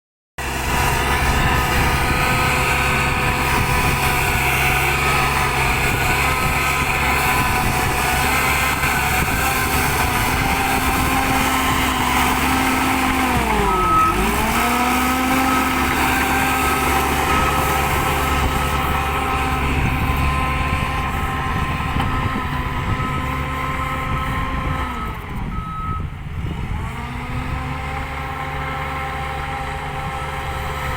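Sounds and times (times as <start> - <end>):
bulldozer engine whine: 0.4 - 30.9.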